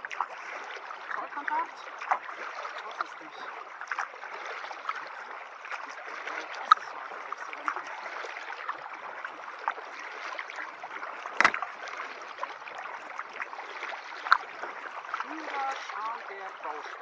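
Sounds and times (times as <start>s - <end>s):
paddle splashing water: 0.0s - 17.0s
water drips: 0.0s - 17.0s.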